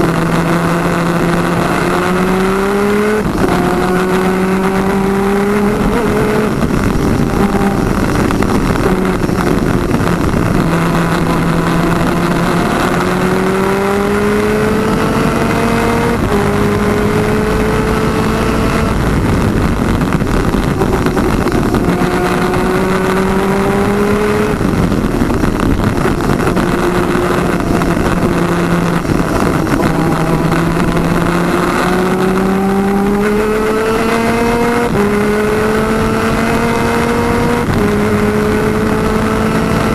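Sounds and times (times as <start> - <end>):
constant rushing noise: 0.0 - 39.9
kart engine racing through gears: 0.0 - 39.9.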